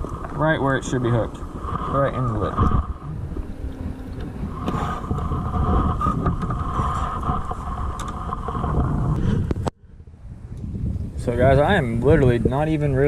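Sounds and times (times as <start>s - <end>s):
steady high hum: 0.0s - 13.0s
wind buffeting microphone: 0.0s - 13.0s.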